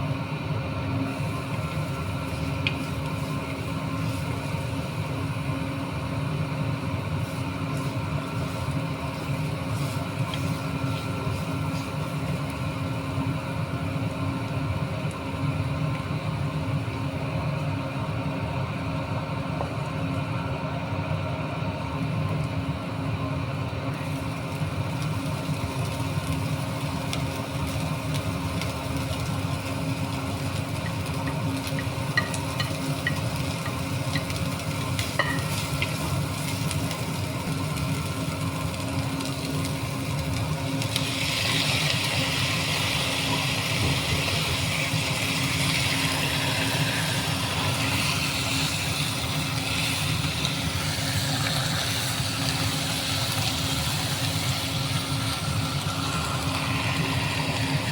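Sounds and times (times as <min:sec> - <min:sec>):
food sizzling in frying: 0:00.0 - 0:20.6, 0:21.9 - 0:57.9
low mechanical hum: 0:00.0 - 0:57.9.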